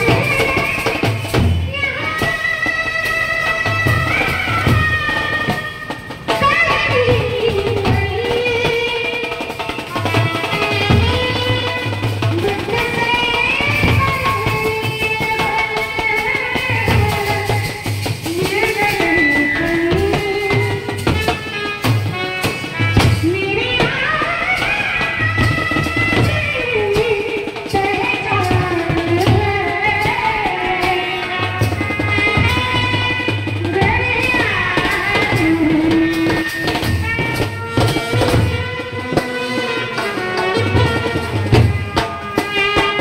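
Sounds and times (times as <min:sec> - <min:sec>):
steady drum beat: 0:00.0 - 0:43.0
band playing a slow melody: 0:02.2 - 0:43.0.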